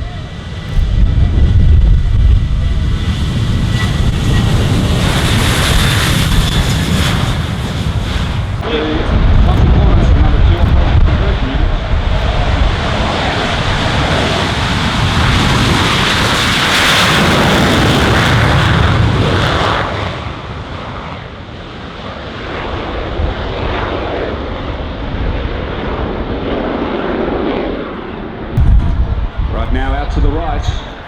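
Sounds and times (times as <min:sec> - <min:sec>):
military aircraft engine roar: 0:00.0 - 0:31.0.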